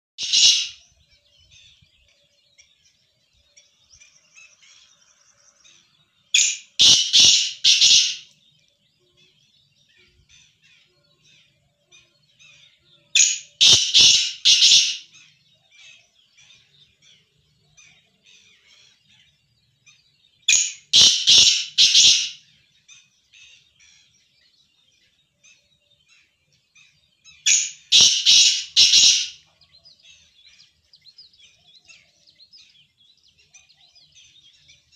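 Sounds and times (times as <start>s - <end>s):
francolin calling: 0.2s - 8.6s, 9.2s - 24.3s, 25.4s - 34.9s.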